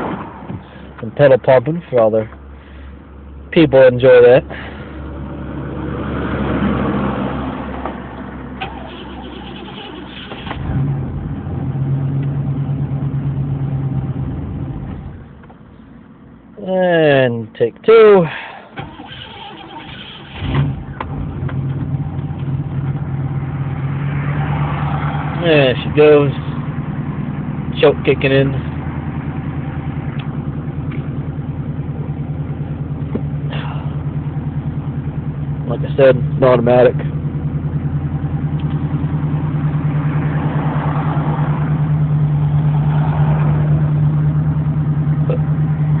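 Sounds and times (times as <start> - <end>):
car engine cold-starting and idling: 7.7 - 16.5, 17.9 - 46.0.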